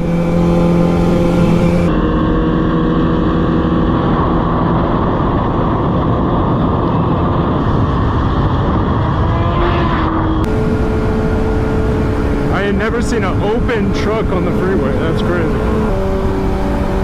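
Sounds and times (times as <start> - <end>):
motorcycle engine drone: 0.0 - 17.0
wind rush on microphone: 0.0 - 17.0.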